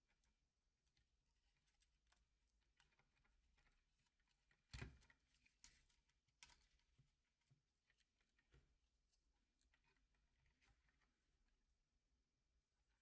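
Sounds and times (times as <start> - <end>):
faint clicks and taps: 0.9 - 11.5.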